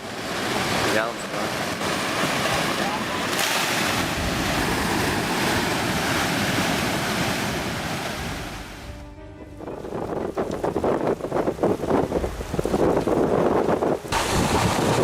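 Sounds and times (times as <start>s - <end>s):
rushing mudflow in river channel: 0.0s - 9.0s, 10.0s - 15.0s.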